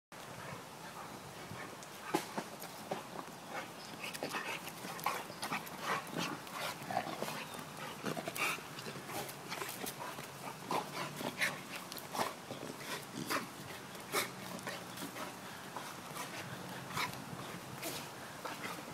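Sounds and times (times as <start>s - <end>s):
dog noises: 3.0s - 18.9s.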